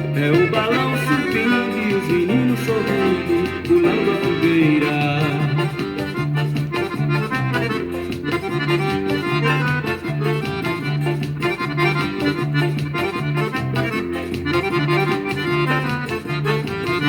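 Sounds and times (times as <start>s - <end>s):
accordion melody: 0.0s - 17.0s
repeating bass line: 0.0s - 17.0s
steady percussion: 0.0s - 17.0s.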